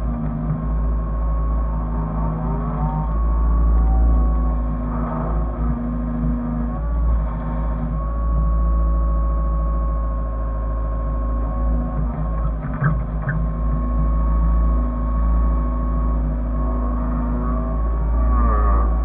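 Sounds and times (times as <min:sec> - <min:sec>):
excavator diesel engine: 0:00.0 - 0:19.0
high whine: 0:00.0 - 0:19.0.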